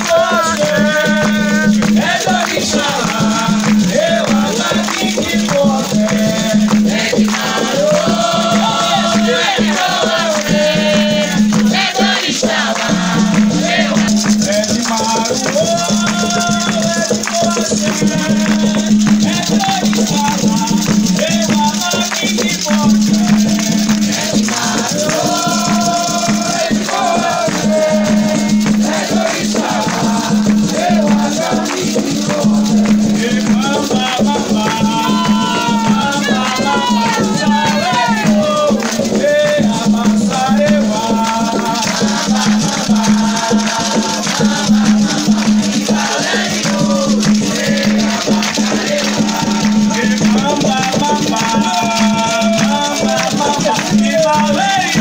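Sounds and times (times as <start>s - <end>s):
shaken rattles: 0.0s - 55.0s
voices chanting: 0.0s - 55.0s.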